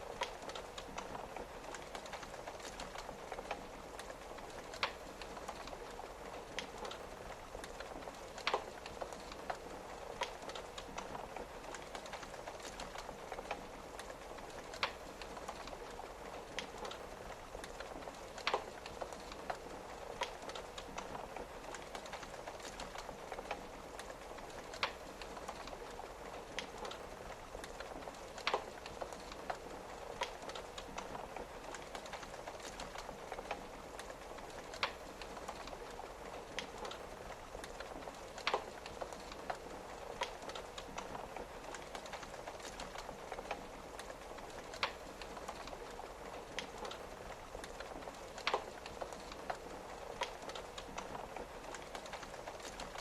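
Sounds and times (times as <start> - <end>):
rain pattering on a window: 0.0 - 53.0
wood fire crackling and popping: 0.0 - 53.0.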